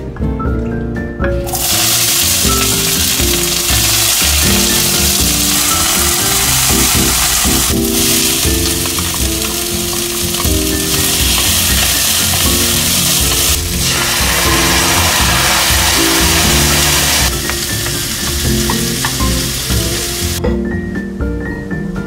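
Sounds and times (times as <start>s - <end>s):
background music: 0.0s - 22.0s
food sizzling in a pan: 1.5s - 20.4s
spatula stirring in a pan: 2.0s - 19.9s.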